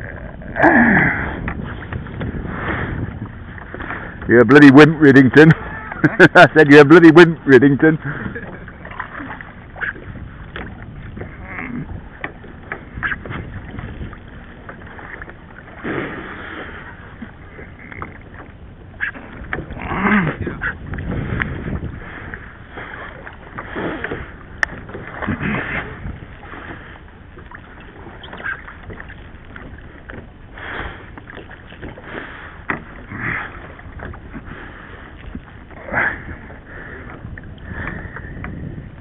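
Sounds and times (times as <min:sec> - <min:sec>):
water lapping against a hull: 0:00.0 - 0:39.0.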